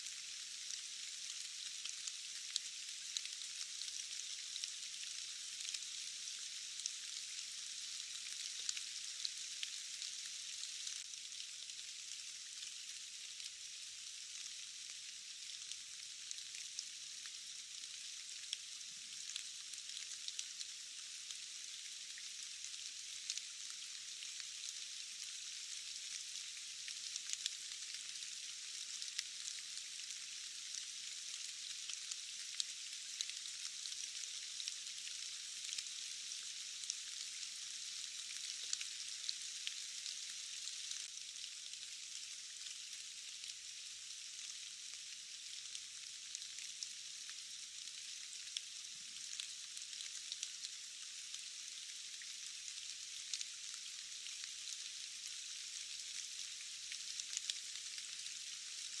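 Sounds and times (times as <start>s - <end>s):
sharp ticks of raindrops: 0.0s - 59.0s
steady rain hiss: 0.0s - 59.0s.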